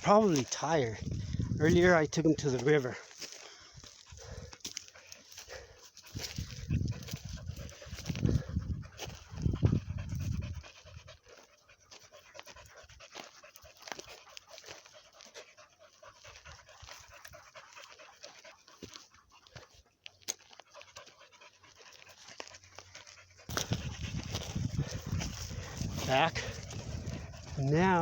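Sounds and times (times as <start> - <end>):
dogs panting: 0.0 - 28.0
footsteps through dry brush: 0.0 - 28.0.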